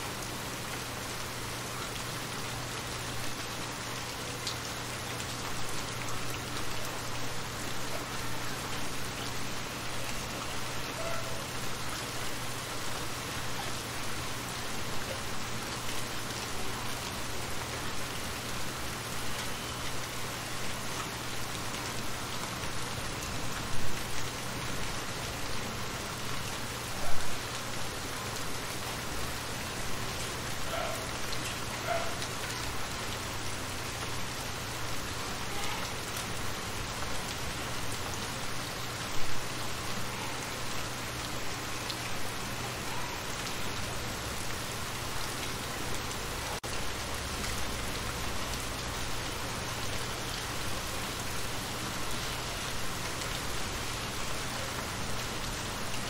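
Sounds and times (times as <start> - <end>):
rain falling on shallow water: 0.0 - 56.0.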